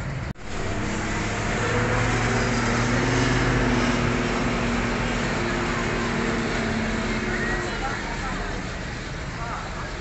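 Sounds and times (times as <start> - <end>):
bus engine idling: 0.0 - 10.0
din of busy bus terminal: 0.0 - 10.0.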